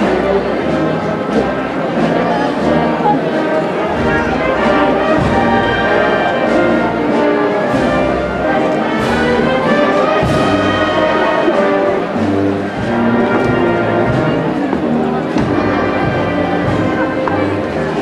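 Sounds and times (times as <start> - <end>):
brass band playing slow march: 0.0 - 18.0.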